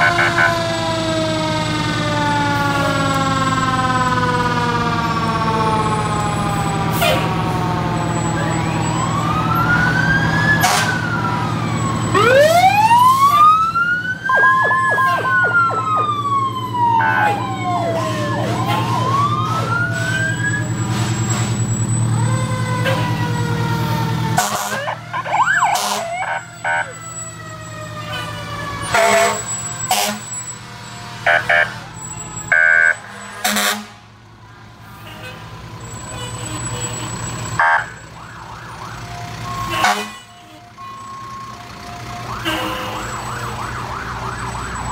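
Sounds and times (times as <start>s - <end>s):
diesel engines rumbling: 0.0s - 44.9s
fire engine sirens wailing: 0.0s - 44.9s.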